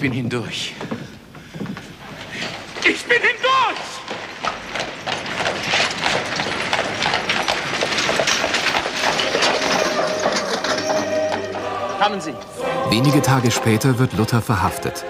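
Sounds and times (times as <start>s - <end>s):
hooves and wooden wheels clattering: 0.0s - 15.0s.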